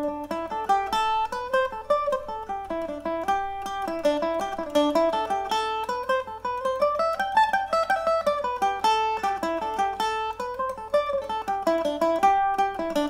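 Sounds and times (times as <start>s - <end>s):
mandolin playing a jig: 0.0s - 13.0s.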